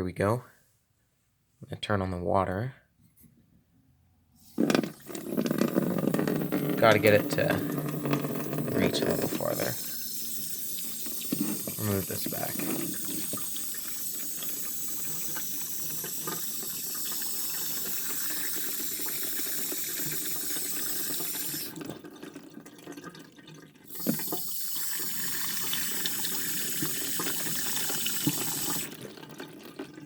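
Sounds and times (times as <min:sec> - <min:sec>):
water running through toilet: 0:04.6 - 0:30.0.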